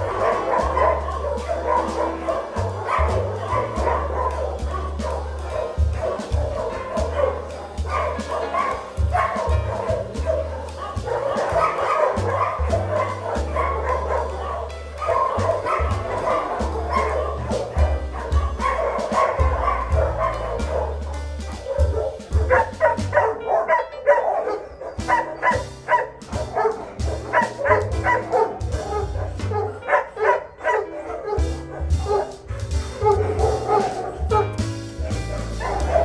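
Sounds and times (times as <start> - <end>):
music with steady bass line: 0.0 - 23.4, 25.0 - 29.9, 31.4 - 36.0
dogs barking and yipping: 0.0 - 36.0.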